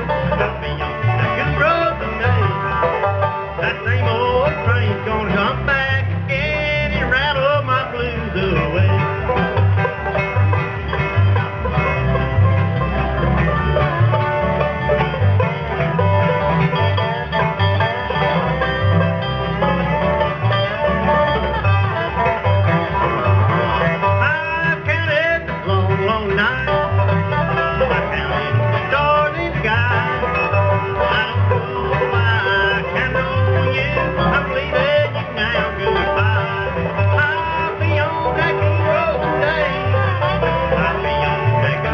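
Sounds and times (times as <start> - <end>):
banjo picking: 0.0 - 41.9
bluegrass band playing: 0.0 - 41.9.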